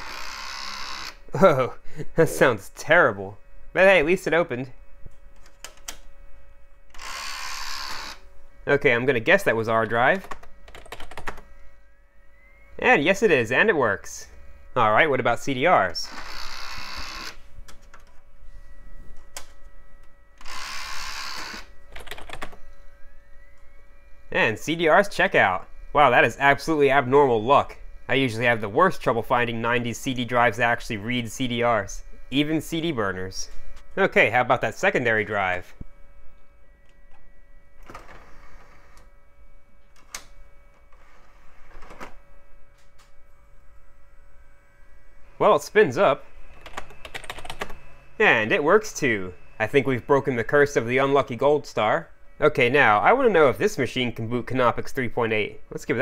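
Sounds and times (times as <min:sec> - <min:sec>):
disc spinning up whine: 0:00.0 - 0:56.0
optical drive whirring: 0:00.0 - 0:56.0.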